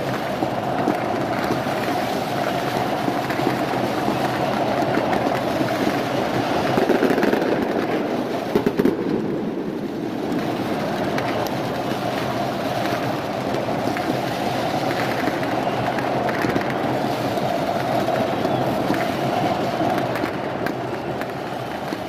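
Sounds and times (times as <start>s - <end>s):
firecrackers crackling and popping: 0.0s - 22.0s
stadium crowd roaring: 0.0s - 22.0s.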